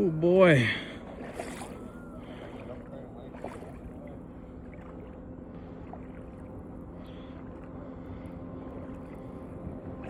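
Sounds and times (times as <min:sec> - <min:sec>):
water at shoreline: 0:00.0 - 0:10.0
wind: 0:00.0 - 0:10.0.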